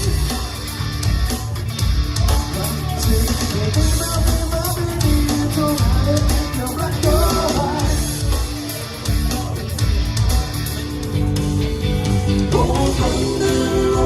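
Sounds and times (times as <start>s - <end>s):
live rock band playing: 0.0s - 14.0s
lead voice over band: 2.3s - 14.0s.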